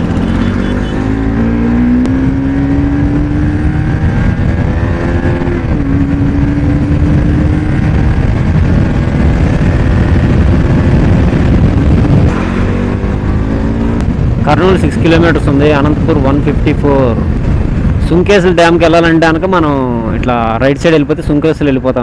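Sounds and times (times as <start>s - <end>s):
motorcycle engine accelerating: 0.0s - 18.0s
wind rushing over microphone: 0.0s - 22.0s.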